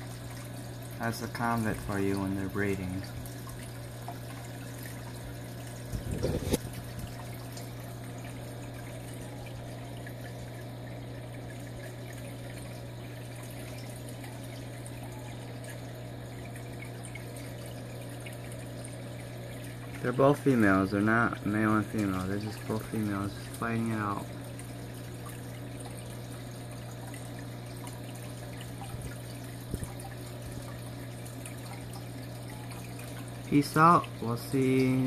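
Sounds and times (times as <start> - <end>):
aquarium pump humming: 0.0 - 35.0
water trickling: 0.0 - 35.0.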